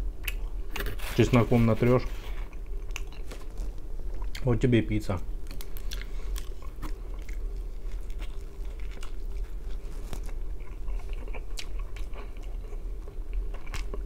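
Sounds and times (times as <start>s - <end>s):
steady low hum: 0.0s - 14.0s
chewing crunchy pizza: 0.2s - 4.5s, 5.4s - 14.0s.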